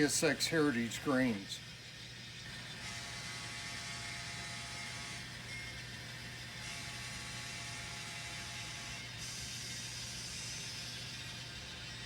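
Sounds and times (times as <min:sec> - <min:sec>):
low electrical hum: 0:00.0 - 0:12.0
model train motor whirring: 0:00.0 - 0:12.0.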